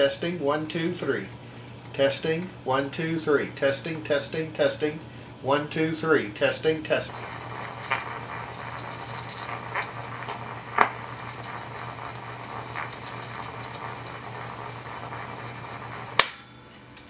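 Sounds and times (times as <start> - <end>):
wire recorder humming: 0.0 - 17.0.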